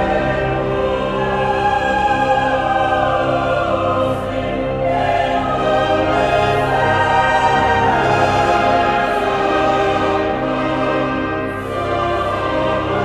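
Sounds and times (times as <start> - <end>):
choir and orchestra sustained chords: 0.0 - 13.0.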